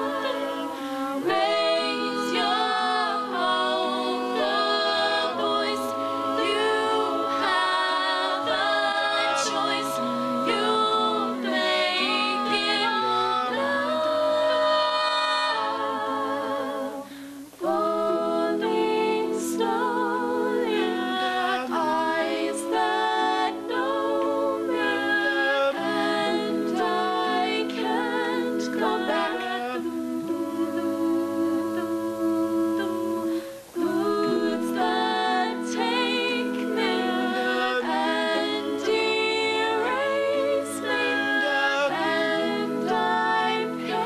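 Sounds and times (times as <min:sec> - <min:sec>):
a cappella group singing in harmony: 0:00.0 - 0:44.0.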